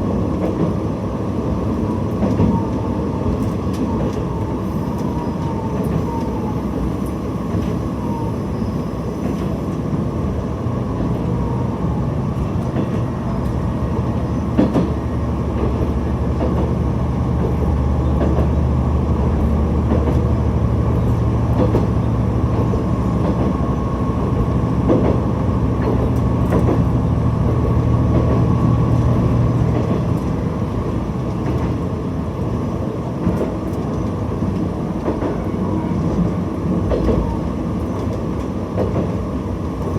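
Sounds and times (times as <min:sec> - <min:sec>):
diesel railcar engine drone: 0:00.0 - 0:39.9.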